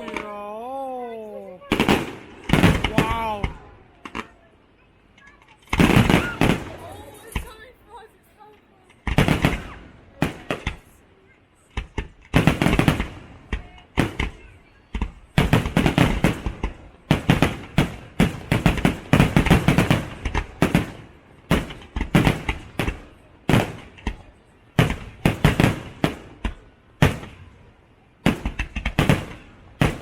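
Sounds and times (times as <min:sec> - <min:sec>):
fireworks bangs and crackling: 0:01.6 - 0:04.5, 0:05.2 - 0:08.0, 0:08.8 - 0:11.0, 0:11.6 - 0:30.0.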